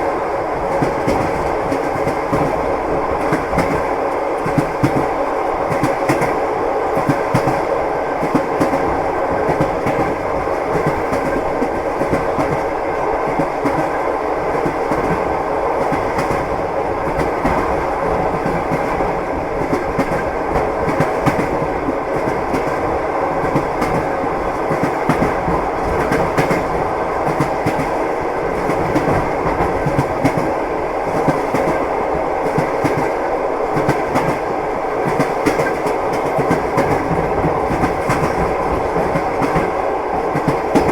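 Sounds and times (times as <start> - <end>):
train wheels clattering on rails: 0.0 - 40.9.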